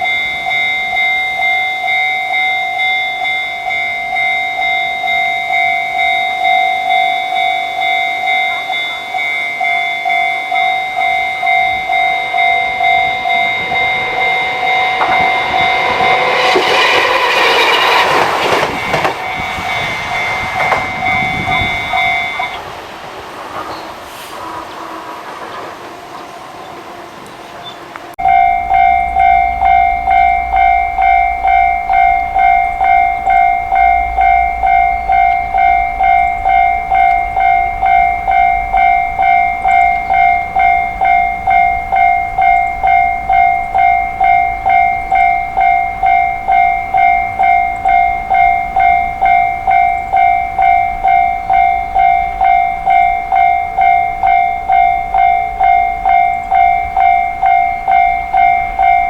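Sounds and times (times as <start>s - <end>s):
level crossing warning bell: 0.0s - 22.9s, 28.2s - 59.0s.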